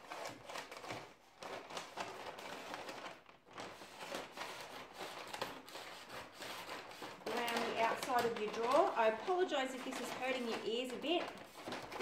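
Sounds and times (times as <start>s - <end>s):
paper crinkling: 0.0s - 12.0s
scissors cutting paper: 0.0s - 12.0s.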